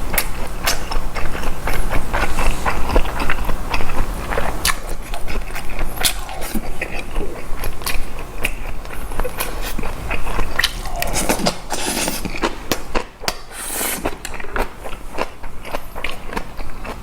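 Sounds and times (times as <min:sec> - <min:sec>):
person chewing food: 0:00.1 - 0:17.0.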